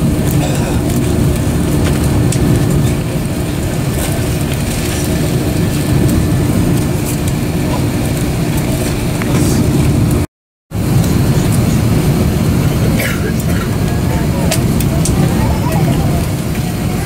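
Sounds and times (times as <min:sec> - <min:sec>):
airliner cabin rumble: 0:00.0 - 0:17.0
steady hum: 0:00.0 - 0:17.0.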